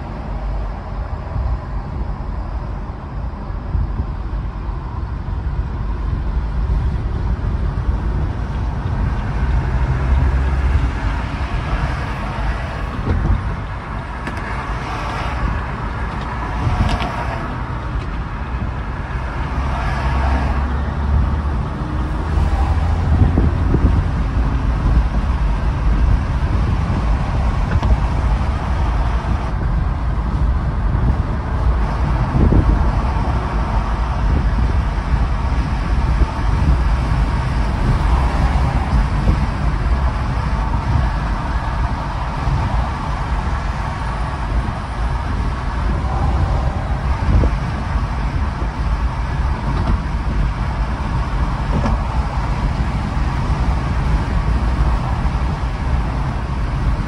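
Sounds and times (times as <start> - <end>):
road and tyre rumble: 0.0 - 57.0.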